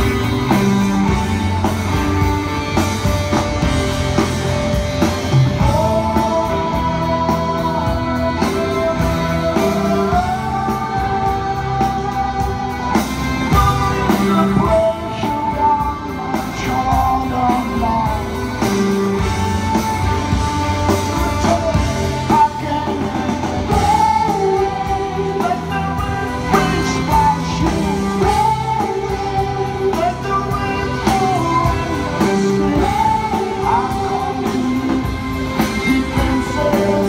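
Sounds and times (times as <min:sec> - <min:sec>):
live rock band playing: 0:00.0 - 0:37.0
lead vocal singing long notes: 0:05.3 - 0:37.0.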